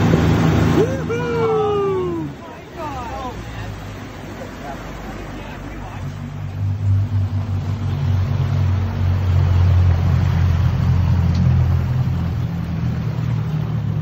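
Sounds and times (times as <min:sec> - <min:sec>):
boat engine humming: 0:00.0 - 0:14.0
churning wake water: 0:00.0 - 0:14.0.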